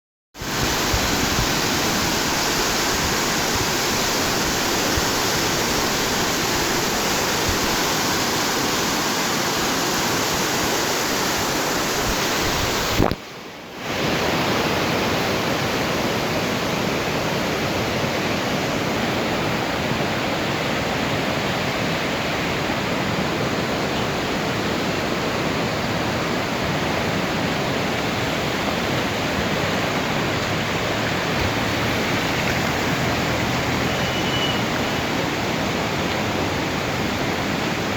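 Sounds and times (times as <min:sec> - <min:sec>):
fast-flowing water rushing: 0:00.4 - 0:37.9.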